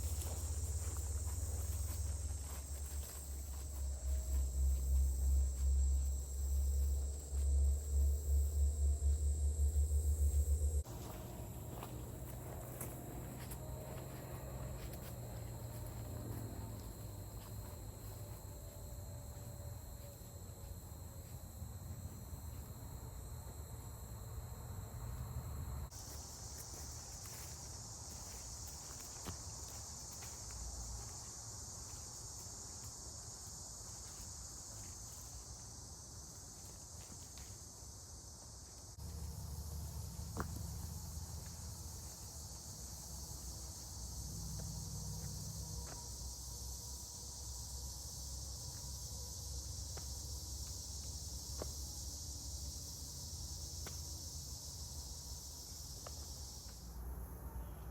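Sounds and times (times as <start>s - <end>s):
insect chorus: 0.0s - 57.9s.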